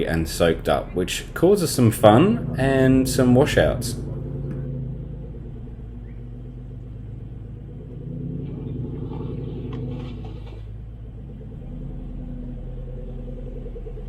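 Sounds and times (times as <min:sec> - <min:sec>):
off-road vehicle engine low revs: 0:00.0 - 0:14.0.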